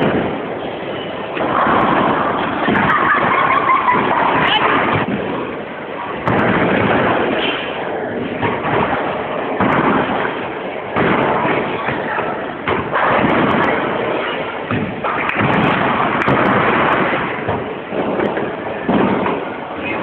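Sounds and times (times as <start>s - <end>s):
bowling balls thudding and rolling: 0.0s - 20.0s
steady roar of hall: 0.0s - 20.0s.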